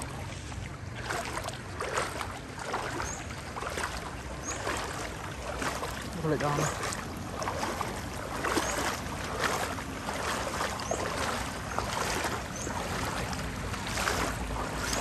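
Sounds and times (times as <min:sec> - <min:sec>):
floodwater splashing and sloshing: 0:00.0 - 0:15.0.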